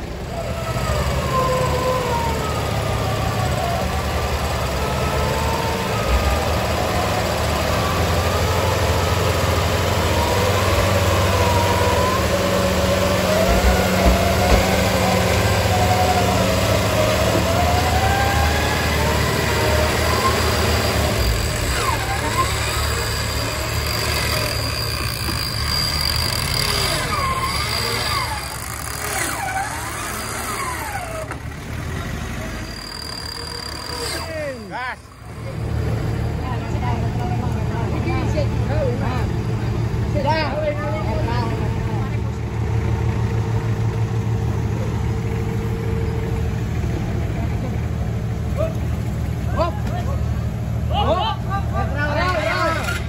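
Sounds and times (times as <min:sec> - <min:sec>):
off-road engine running under load: 0:00.0 - 0:53.0.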